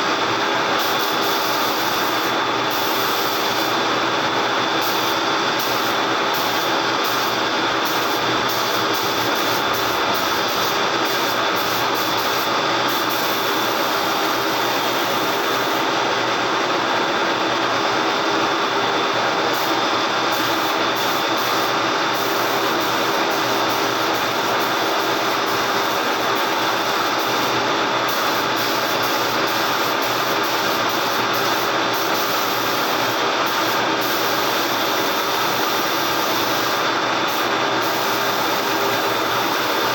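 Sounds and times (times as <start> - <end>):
machine hiss and hum: 0.0 - 39.9.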